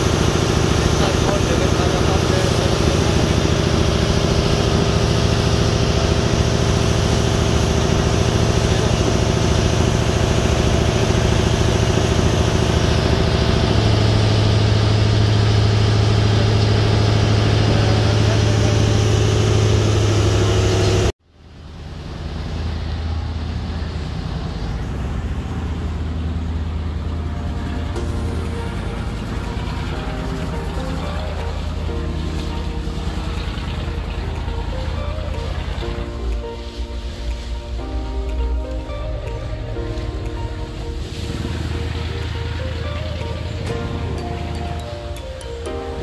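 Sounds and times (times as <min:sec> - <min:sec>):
boat engine running: 0:00.0 - 0:21.1, 0:22.2 - 0:46.0
rush of boat wake: 0:00.0 - 0:21.1, 0:21.9 - 0:46.0
wind: 0:00.0 - 0:46.0.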